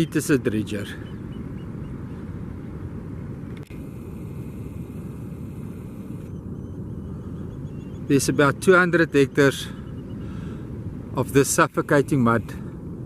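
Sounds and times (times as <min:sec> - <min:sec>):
steady low rumbling: 0:00.0 - 0:13.0.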